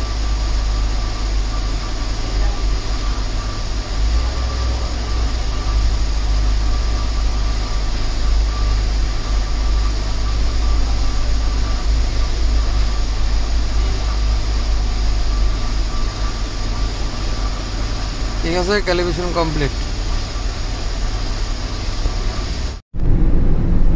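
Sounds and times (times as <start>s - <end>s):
car engine and road rumble: 0.0s - 23.9s
faint steady whine: 0.0s - 23.9s.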